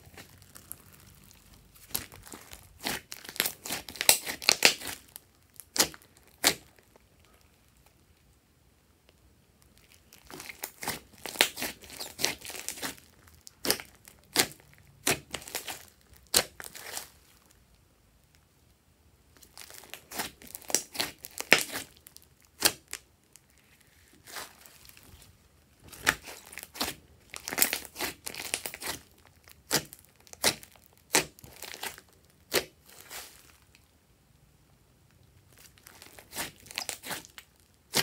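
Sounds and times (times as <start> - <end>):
slime crackling and popping: 0.0 - 8.0, 9.6 - 17.6, 19.3 - 33.9, 35.3 - 38.0.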